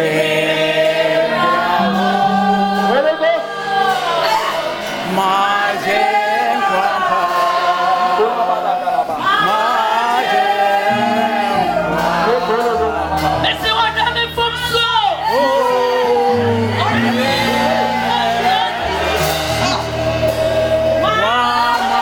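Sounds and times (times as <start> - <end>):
group singing gospel song: 0.0 - 22.0.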